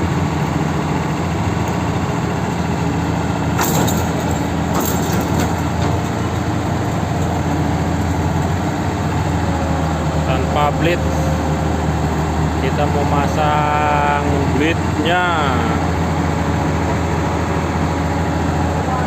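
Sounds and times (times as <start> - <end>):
large diesel engine idling: 0.0 - 19.0.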